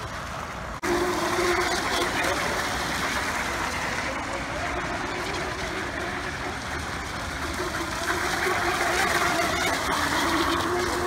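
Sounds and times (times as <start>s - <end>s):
model race boat motors: 0.0s - 11.0s.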